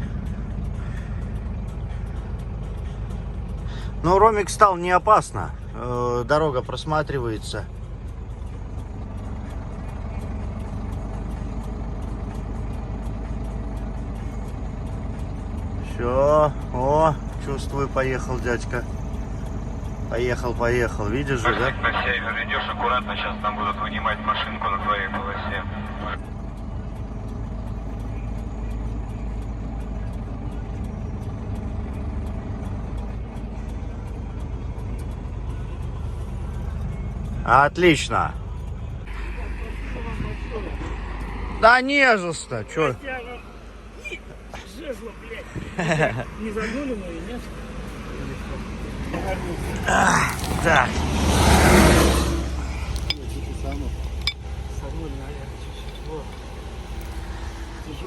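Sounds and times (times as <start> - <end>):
diesel truck engine under load: 0.0 - 58.0
faint regular ticking: 0.0 - 58.0.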